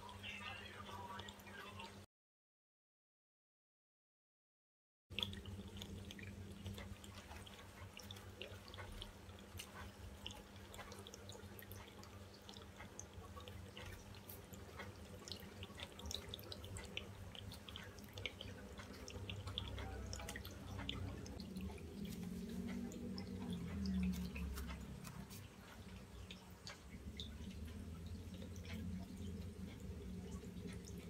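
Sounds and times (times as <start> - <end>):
paint dripping: 5.1 - 31.0
steady low hum: 5.2 - 31.0.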